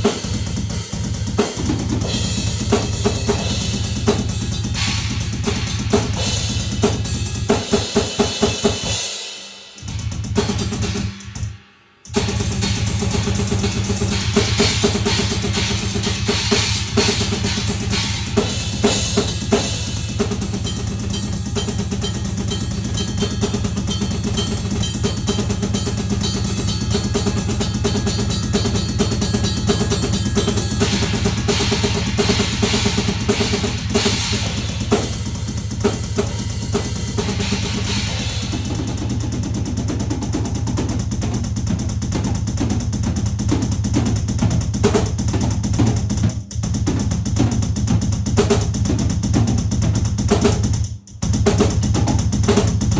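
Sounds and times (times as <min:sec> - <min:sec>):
bass drum strokes: 0:00.0 - 0:09.0, 0:12.1 - 0:52.9
fast drum kit drumming: 0:00.0 - 0:52.9.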